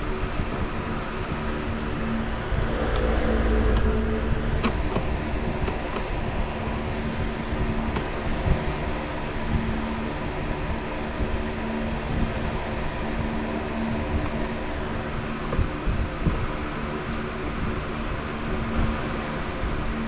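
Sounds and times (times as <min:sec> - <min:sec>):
mechanical hum with fan rush: 0:00.0 - 0:20.0.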